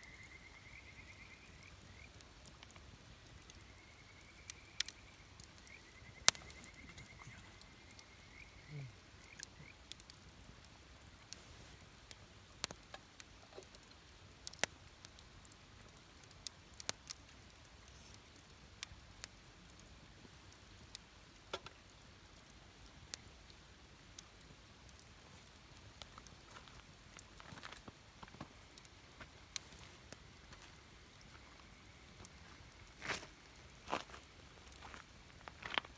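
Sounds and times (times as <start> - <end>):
campfire crackling and popping: 0.0 - 35.9
soft background hiss: 0.0 - 35.9.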